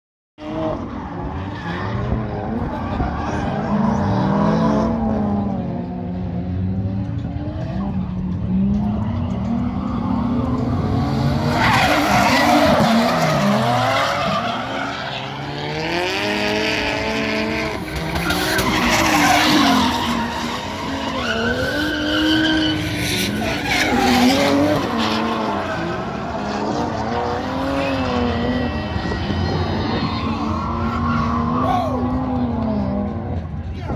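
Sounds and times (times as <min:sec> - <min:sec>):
car engines revving: 0:00.4 - 0:33.9.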